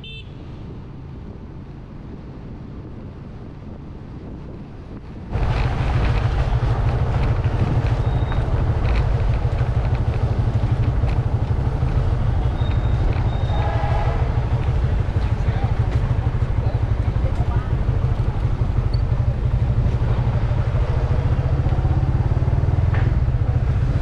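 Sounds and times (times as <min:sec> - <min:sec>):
motorcycle engine and road noise: 0:00.0 - 0:24.0
wind rumble: 0:00.0 - 0:24.0.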